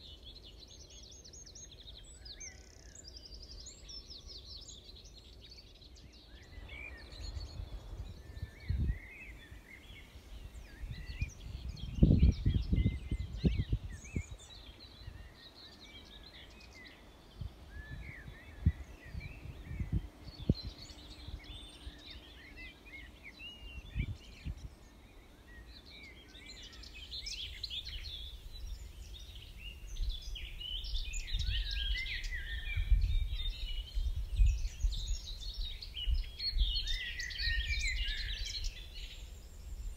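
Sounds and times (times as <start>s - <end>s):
songbirds singing: 0.0s - 39.9s
wind rumbling on microphone: 5.9s - 39.9s.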